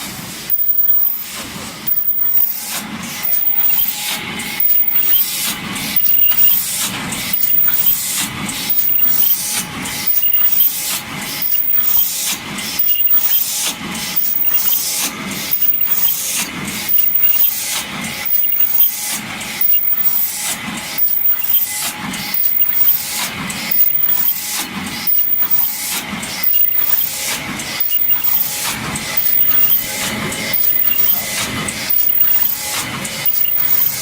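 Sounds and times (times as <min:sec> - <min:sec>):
machine mechanical clatter: 0:00.0 - 0:34.0.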